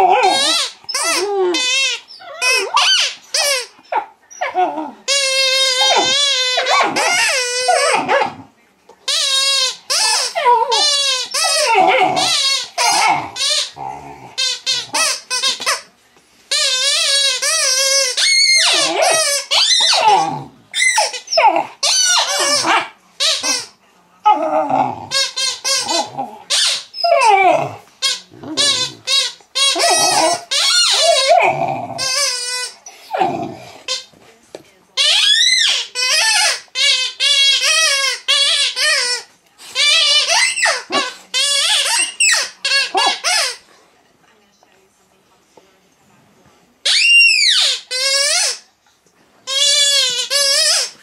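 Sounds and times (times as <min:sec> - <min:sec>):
puppy squealing: 0:00.0 - 0:08.4, 0:09.1 - 0:15.2, 0:16.7 - 0:23.7, 0:24.3 - 0:34.0, 0:35.0 - 0:43.6, 0:46.8 - 0:48.6
rubber squeaky toy squeezed: 0:00.0 - 0:08.4, 0:09.0 - 0:15.9, 0:16.5 - 0:23.8, 0:25.1 - 0:34.1, 0:35.0 - 0:43.6, 0:46.8 - 0:48.7, 0:49.4 - 0:51.0.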